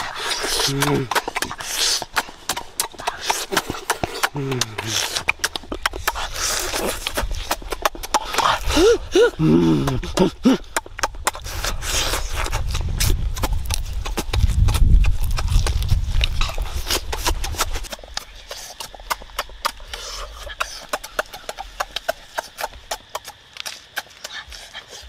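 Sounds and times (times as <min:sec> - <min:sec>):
chewing and lip-smacking: 0:00.0 - 0:25.0.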